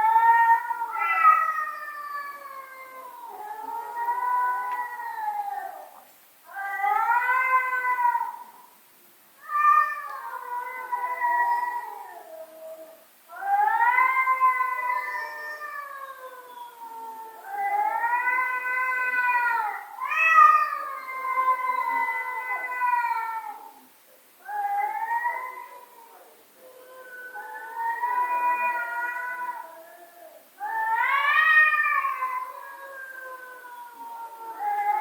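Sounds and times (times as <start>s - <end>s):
cat yowling: 0.0s - 8.6s, 9.4s - 23.8s, 24.4s - 35.0s.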